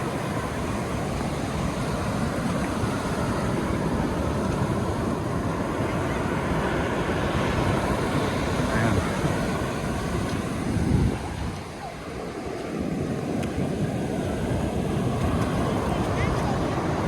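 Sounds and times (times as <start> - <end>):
ocean waves on a beach: 0.0 - 17.0
wind buffeting microphone: 0.0 - 17.0.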